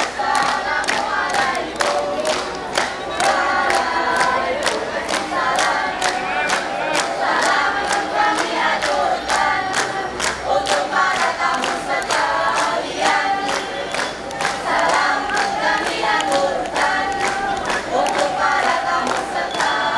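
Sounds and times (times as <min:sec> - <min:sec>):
young voices singing and chanting: 0:00.0 - 0:19.9.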